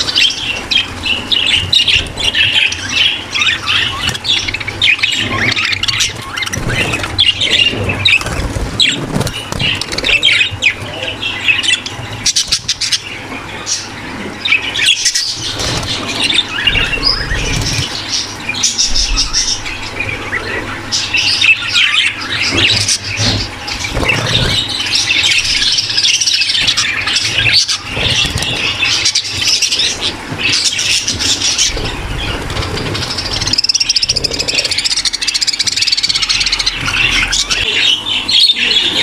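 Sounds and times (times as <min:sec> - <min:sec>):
flock of budgerigars chattering: 0:00.0 - 0:39.0.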